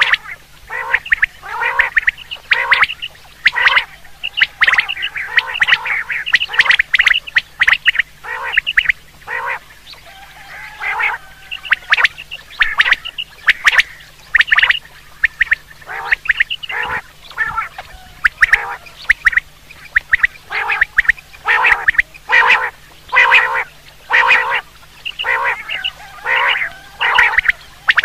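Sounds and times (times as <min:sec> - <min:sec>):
quail calling: 0:00.0 - 0:28.0.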